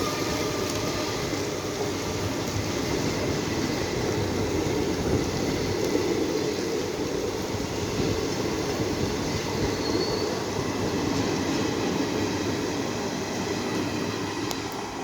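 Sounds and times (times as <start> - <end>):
passenger train running past: 0.0 - 15.0.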